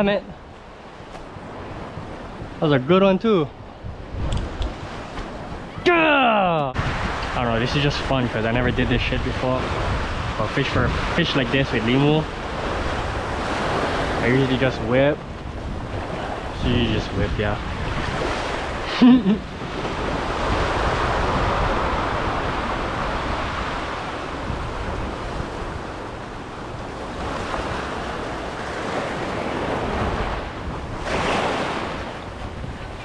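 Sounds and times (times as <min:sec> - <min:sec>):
wind on microphone: 0:00.3 - 0:02.8, 0:03.5 - 0:05.9, 0:06.6 - 0:33.0
waves washing over rocks: 0:05.9 - 0:33.0.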